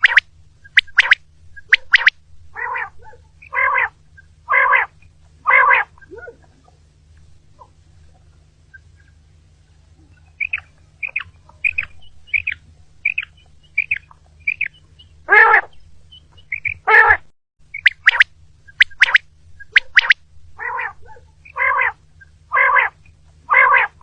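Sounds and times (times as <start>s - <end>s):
quail calling: 0.0s - 24.0s.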